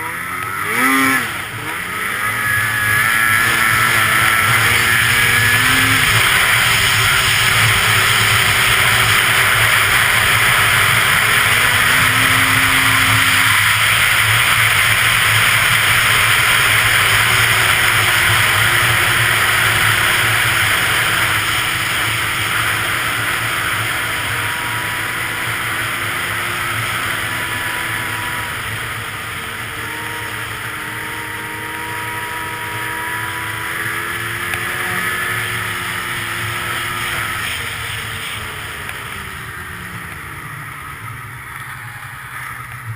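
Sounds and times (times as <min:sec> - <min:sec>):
snowmobile engine running: 0:00.0 - 0:42.9
snowmobile track noise: 0:00.0 - 0:42.9.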